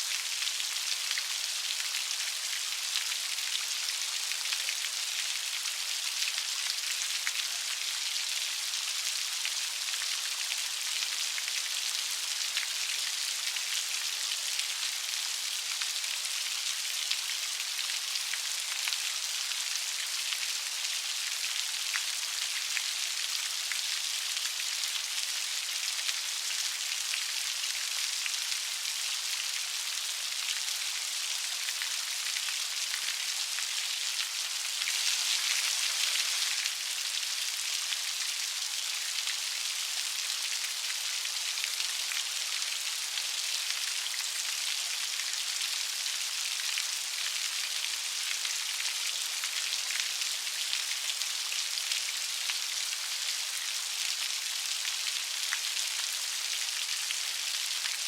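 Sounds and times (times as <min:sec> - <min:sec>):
light rain patter: 0:00.0 - 0:58.0.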